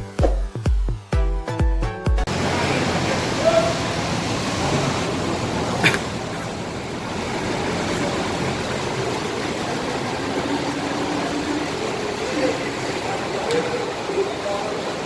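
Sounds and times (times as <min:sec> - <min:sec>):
bus and traffic engine hum: 0:02.3 - 0:15.0.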